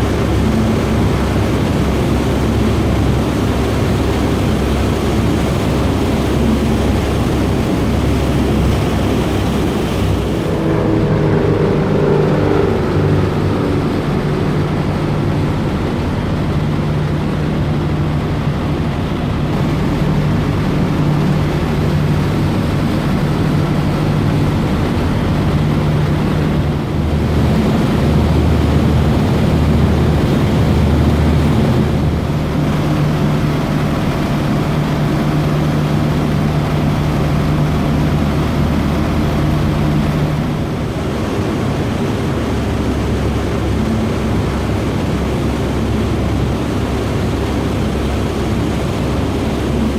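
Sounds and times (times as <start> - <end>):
ferry engines droning: 0.0 - 49.9
wind and water rushing: 0.0 - 49.9.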